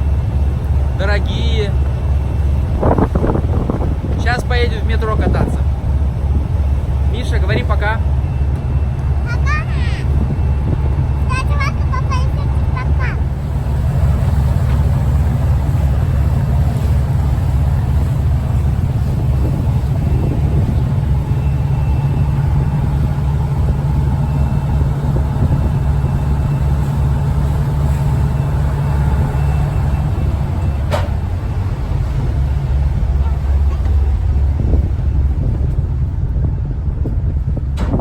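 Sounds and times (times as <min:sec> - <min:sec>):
boat engine low rumble: 0:00.0 - 0:38.0.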